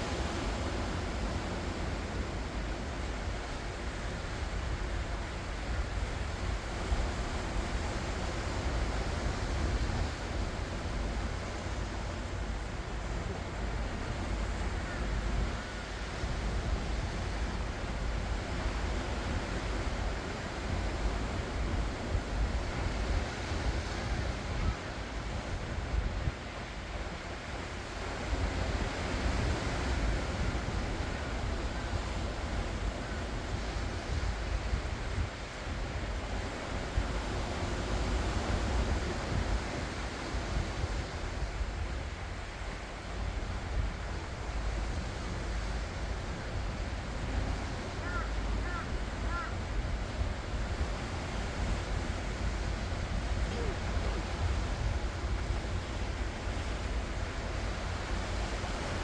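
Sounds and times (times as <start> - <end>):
ocean waves on shore: 0.0 - 59.0
wind rumble on microphone: 0.0 - 59.0.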